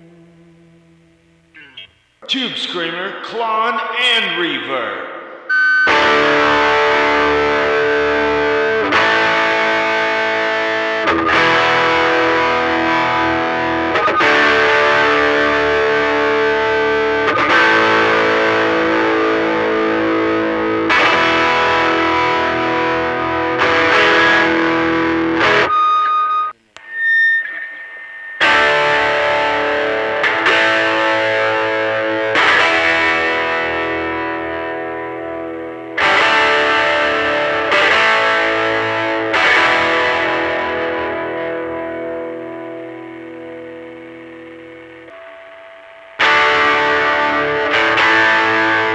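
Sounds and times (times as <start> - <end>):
overdriven electric guitar chords: 0.0 - 2.2, 5.2 - 48.9.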